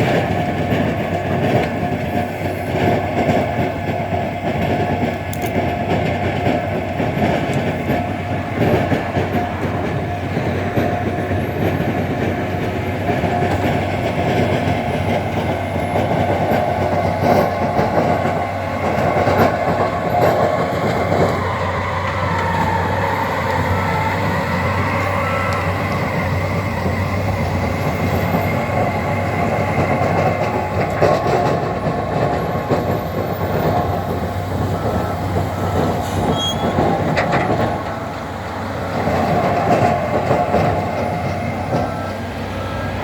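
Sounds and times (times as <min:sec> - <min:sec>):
tractor engine drone: 0:00.0 - 0:43.0.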